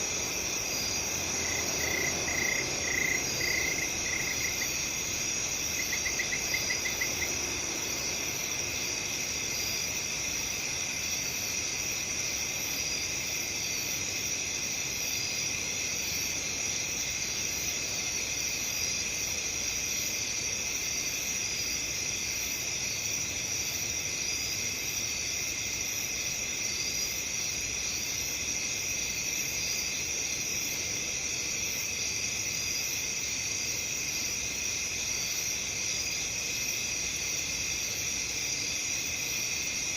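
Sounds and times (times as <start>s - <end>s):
crickets chirping: 0.0s - 39.9s
fast insect trill: 0.0s - 39.9s.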